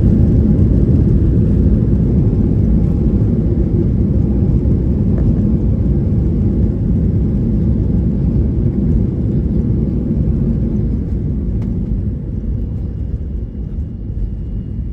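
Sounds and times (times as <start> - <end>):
airplane cabin rumble: 0.0 - 14.9.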